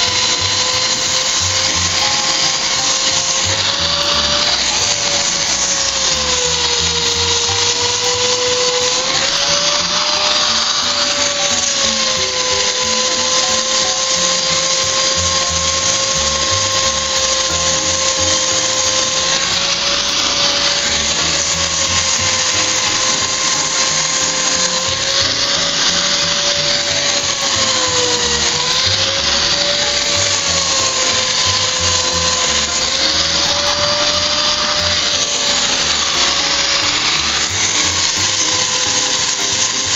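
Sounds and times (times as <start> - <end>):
electric polisher motor whine: 0.0 - 39.9
polishing pad grinding on stone: 0.0 - 39.9.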